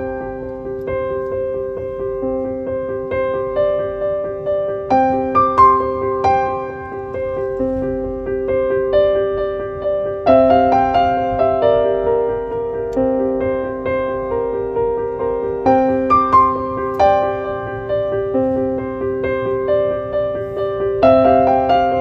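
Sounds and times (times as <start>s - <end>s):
gentle piano piece: 0.0s - 22.0s.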